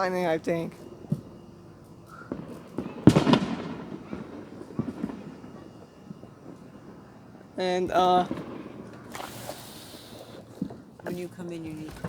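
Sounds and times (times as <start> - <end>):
small firework pops: 0.8 - 12.0
firework bang with echo: 2.1 - 12.0.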